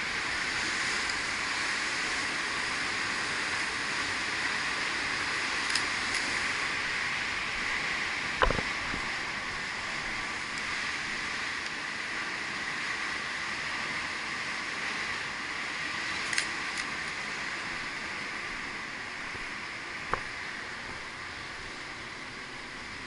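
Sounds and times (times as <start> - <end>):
outdoor hiss: 0.0 - 23.0.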